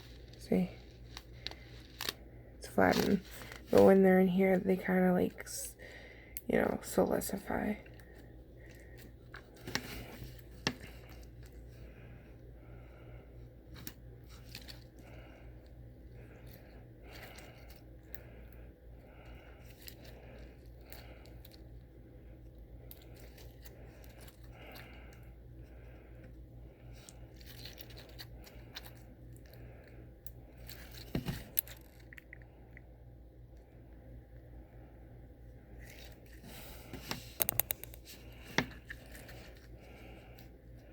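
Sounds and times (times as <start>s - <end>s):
fan humming: 0.0s - 40.9s.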